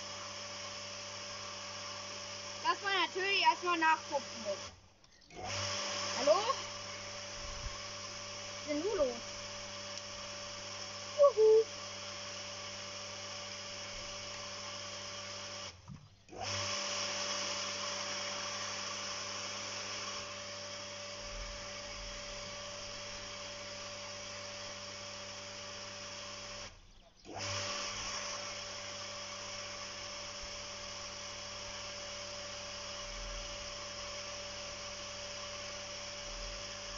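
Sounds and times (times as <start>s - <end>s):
water pump motor hum: 0.0s - 36.9s.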